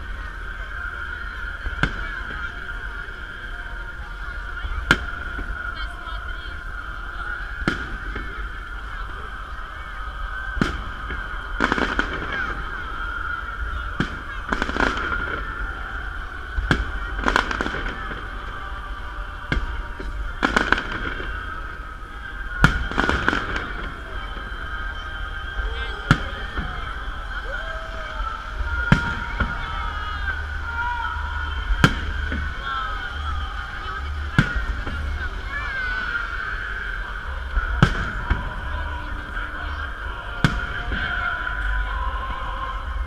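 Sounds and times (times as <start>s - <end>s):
crowd chatter: 0.0s - 43.0s
fireworks bangs: 0.0s - 43.0s.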